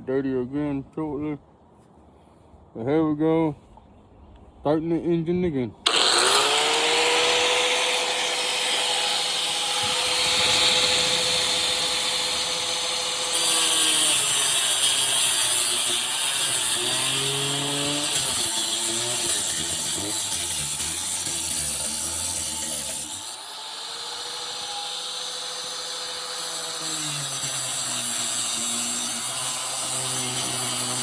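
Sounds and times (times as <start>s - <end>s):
angle grinder cutting metal: 5.9s - 31.0s.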